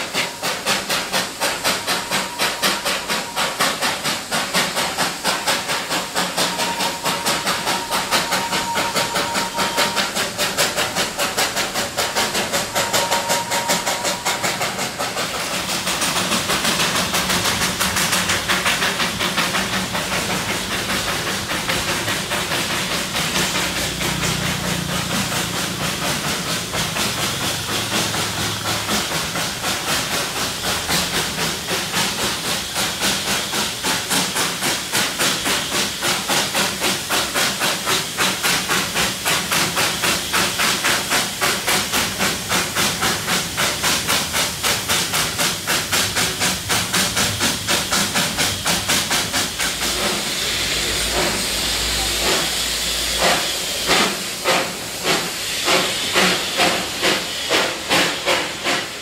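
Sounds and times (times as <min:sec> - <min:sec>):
steam hiss: 0:00.0 - 0:59.0
steam locomotive exhaust chuffs: 0:00.0 - 0:59.0.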